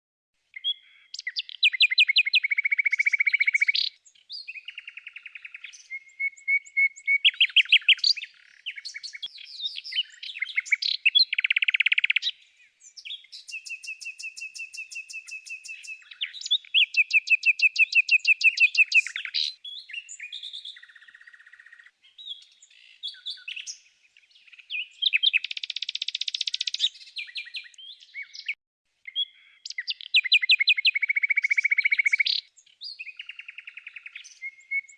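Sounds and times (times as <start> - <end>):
songbird trills and whistles: 0.5 - 34.9.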